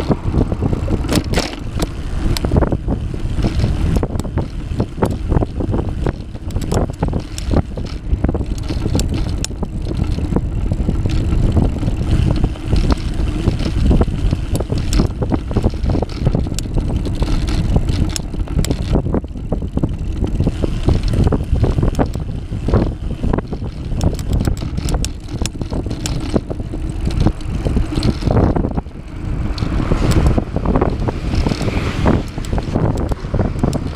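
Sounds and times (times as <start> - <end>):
bicycle knocks and rattles: 0.0 - 33.9
tyres rumbling on concrete: 0.0 - 33.9
wind buffeting microphone: 0.0 - 33.9.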